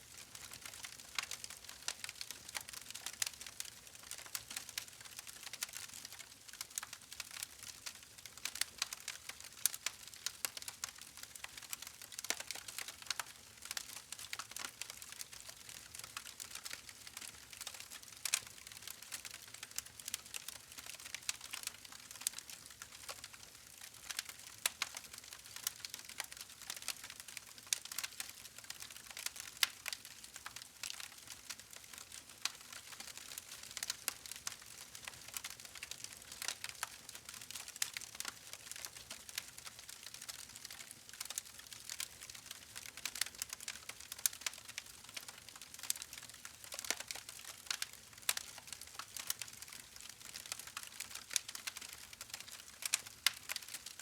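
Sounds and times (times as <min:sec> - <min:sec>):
campfire crackling and popping: 0:00.4 - 0:54.0.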